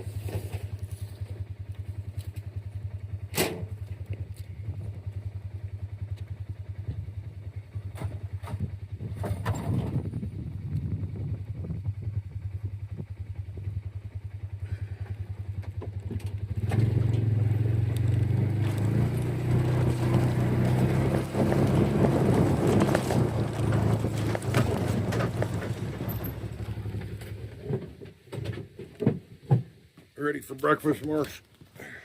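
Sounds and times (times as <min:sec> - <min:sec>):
vehicle engine idling and revving: 0:00.0 - 0:28.3.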